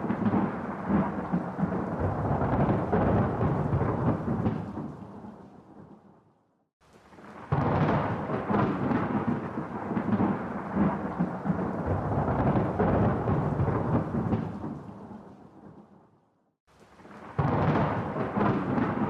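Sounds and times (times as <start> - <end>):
thunder rumbling: 0.0 - 6.0, 7.0 - 15.8, 16.9 - 19.0.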